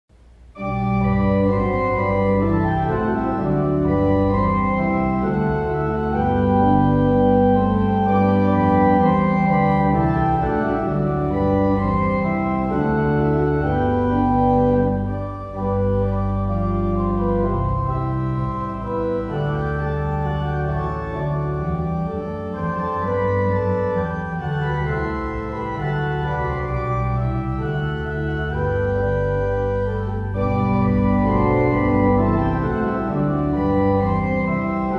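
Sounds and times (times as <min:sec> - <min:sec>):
organ chords: 0:00.1 - 0:34.9
low organ bass notes: 0:00.2 - 0:34.9.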